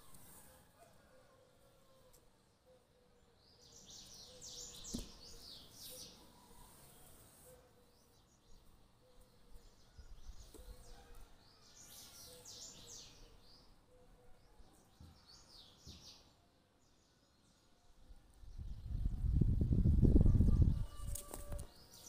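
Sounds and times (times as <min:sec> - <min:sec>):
small birds chirping: 0:02.1 - 0:22.0.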